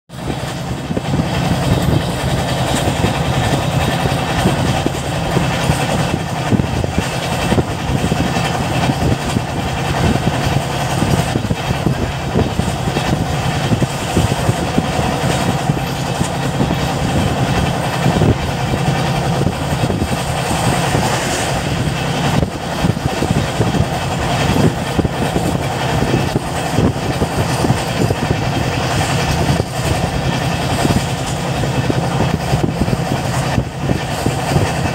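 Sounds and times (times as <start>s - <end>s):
light clatter of train: 0.1s - 34.9s
train wheels rumbling on track: 0.1s - 34.9s.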